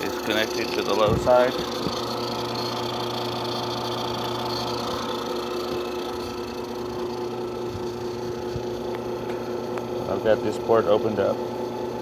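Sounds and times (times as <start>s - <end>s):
vacuum pump humming: 0.0s - 12.0s.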